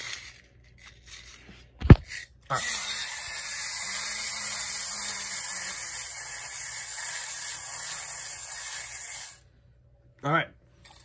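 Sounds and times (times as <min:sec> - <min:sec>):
clockwork toy whirring: 0:00.0 - 0:01.4, 0:02.0 - 0:09.4.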